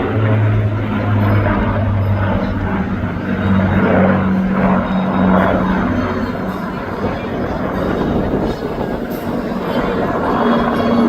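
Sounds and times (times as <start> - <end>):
propeller plane engines flying past: 0.0 - 11.0.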